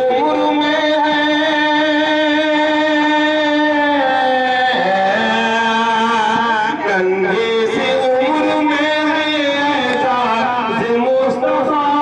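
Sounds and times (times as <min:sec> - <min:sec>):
man singing melismatic note: 0:00.0 - 0:12.0.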